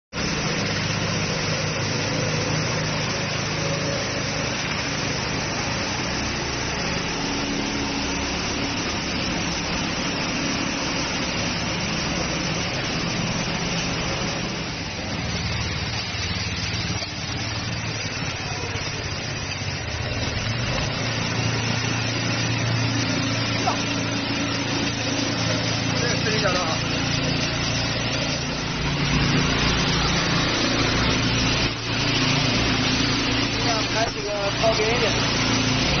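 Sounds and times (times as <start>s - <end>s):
small engine running steadily: 0.1s - 36.0s.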